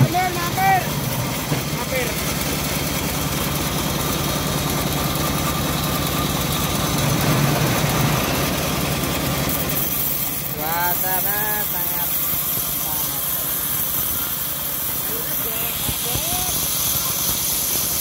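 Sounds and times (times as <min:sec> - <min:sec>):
bandsaw mill cutting log: 0:00.0 - 0:18.0.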